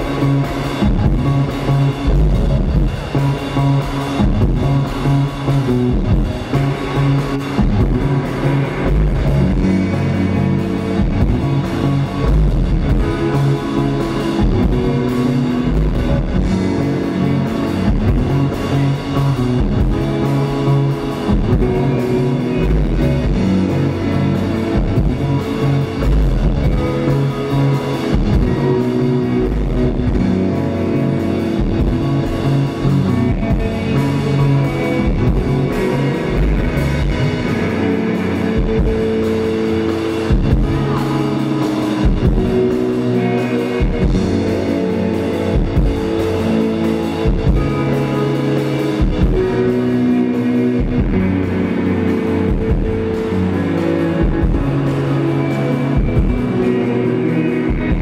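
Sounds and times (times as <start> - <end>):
electric guitar: 0.0 - 58.0.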